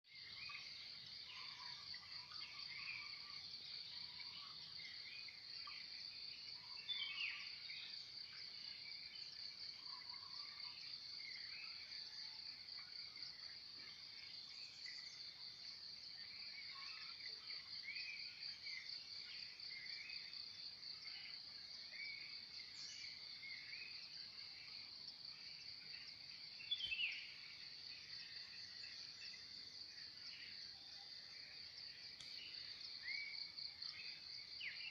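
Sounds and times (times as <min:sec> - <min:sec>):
insect trill: 0:00.1 - 0:34.9.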